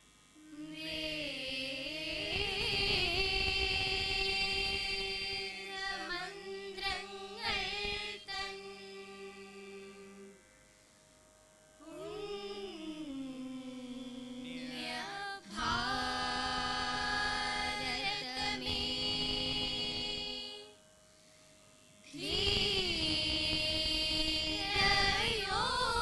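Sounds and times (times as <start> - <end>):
group singing into microphones: 0.5 - 10.3, 11.8 - 20.8, 22.1 - 26.0.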